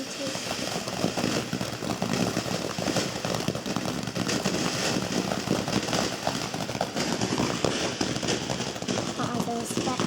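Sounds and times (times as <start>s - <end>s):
firework crackling hiss: 0.0s - 10.0s.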